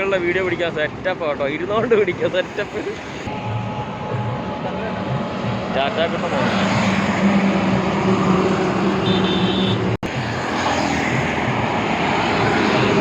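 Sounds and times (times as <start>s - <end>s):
heavy road traffic: 0.0s - 13.0s.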